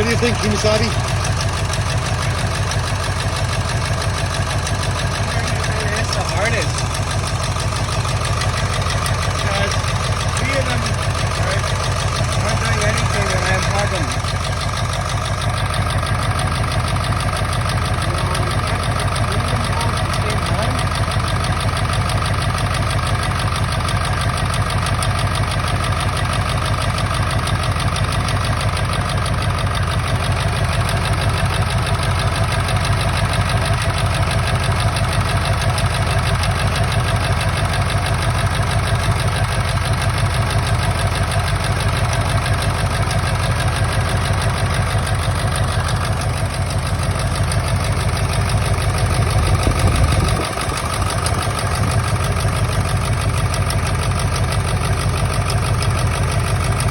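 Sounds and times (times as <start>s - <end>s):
diesel engine idling with misfire: 0.0s - 56.9s.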